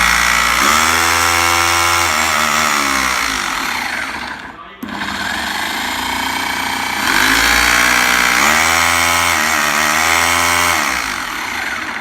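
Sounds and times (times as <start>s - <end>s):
rotary hammer motor running: 0.0s - 12.0s.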